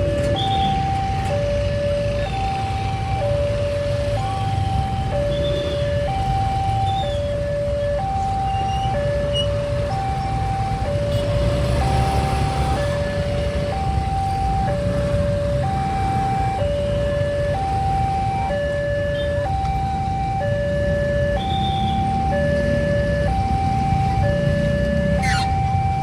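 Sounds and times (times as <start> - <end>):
two-tone level crossing alarm: 0.0 - 26.0.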